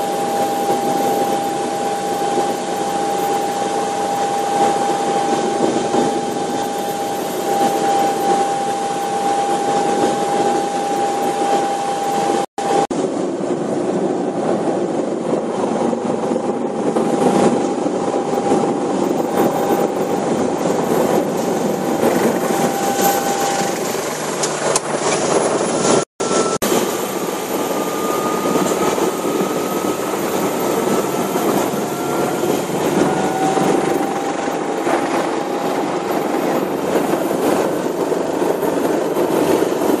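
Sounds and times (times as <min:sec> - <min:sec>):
helicopter rotor and engine noise: 0:00.0 - 0:40.0
rising high whine: 0:00.0 - 0:40.0
turbine whine: 0:00.0 - 0:40.0.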